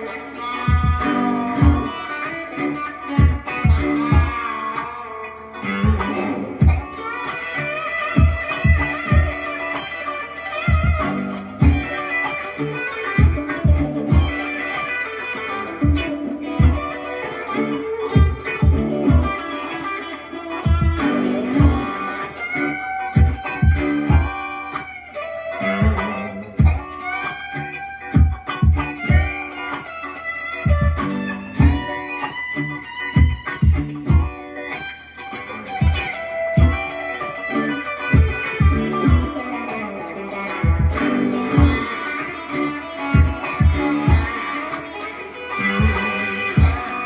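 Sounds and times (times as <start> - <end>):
backing track with steady beat: 0.0 - 47.0
funky electric guitar: 0.0 - 47.0.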